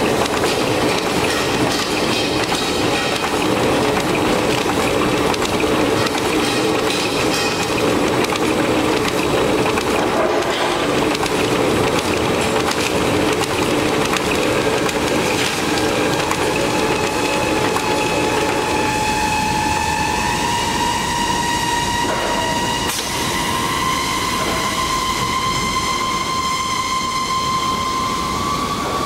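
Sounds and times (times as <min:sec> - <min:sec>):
coil wrapping machine rumbling: 0:00.0 - 0:29.0
steady whine: 0:00.0 - 0:29.0.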